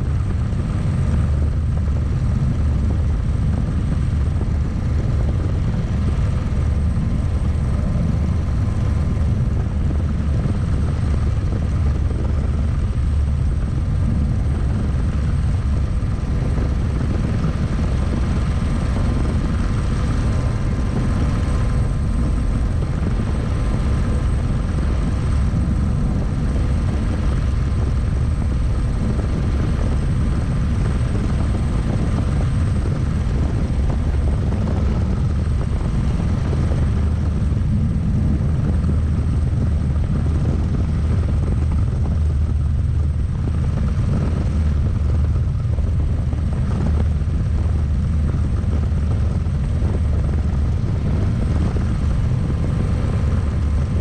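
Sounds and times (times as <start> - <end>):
helicopter rotor and engine rumble: 0.0 - 54.0.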